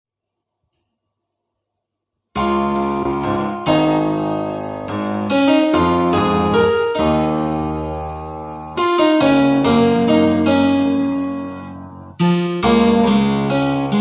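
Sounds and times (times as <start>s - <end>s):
slow keyboard chords: 2.4s - 14.0s.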